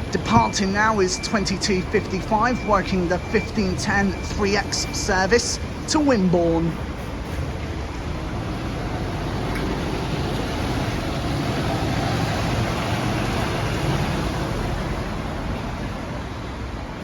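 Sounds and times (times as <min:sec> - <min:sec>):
bus engine driving past: 0:00.0 - 0:17.0.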